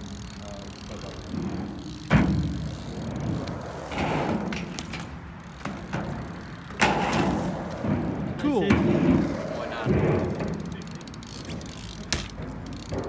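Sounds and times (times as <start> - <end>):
bike hitting the ground: 0.0 - 13.0
bike tyres rolling on concrete: 0.0 - 13.0.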